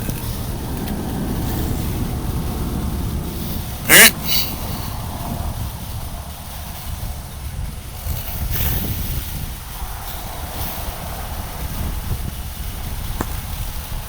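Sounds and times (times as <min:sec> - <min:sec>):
diesel engine rumbling: 0:00.0 - 0:14.0
wind buffeting microphone: 0:00.0 - 0:14.0.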